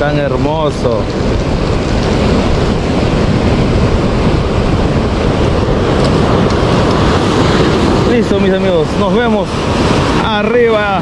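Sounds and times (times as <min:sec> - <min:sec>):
surf breaking on pebble beach: 0:00.3 - 0:11.0.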